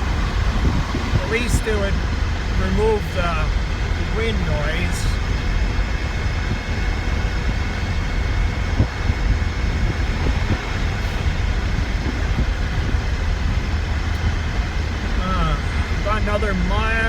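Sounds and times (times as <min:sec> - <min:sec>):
drivetrain and tyre rumble: 0:00.0 - 0:17.0
wind noise: 0:00.0 - 0:17.0.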